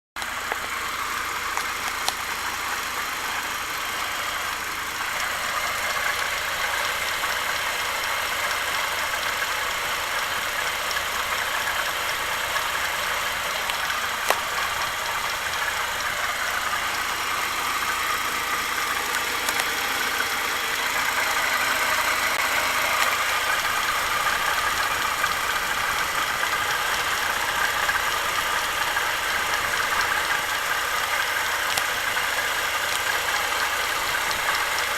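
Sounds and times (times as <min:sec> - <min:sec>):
car engine running: 0:00.0 - 0:34.9
engine knocking: 0:00.0 - 0:34.9.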